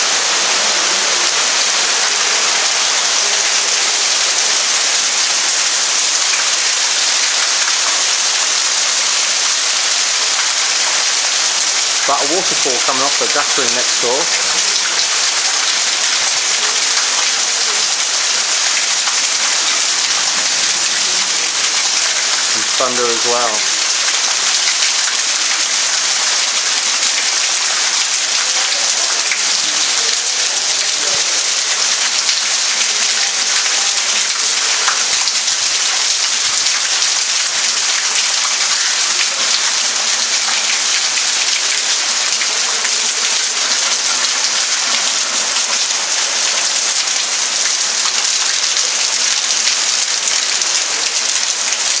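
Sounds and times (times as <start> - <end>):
heavy rain pouring: 0.0 - 52.0
water streaming off roof: 0.0 - 52.0.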